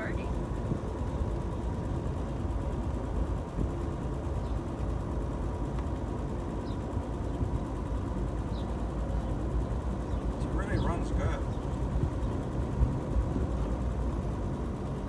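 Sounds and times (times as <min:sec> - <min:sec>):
car engine running: 0:00.0 - 0:15.0
road noise: 0:00.0 - 0:15.0.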